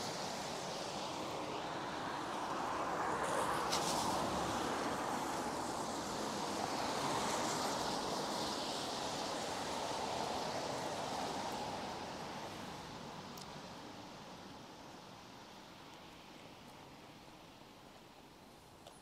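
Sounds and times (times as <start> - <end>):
tyres hissing on wet street: 0.0 - 19.0.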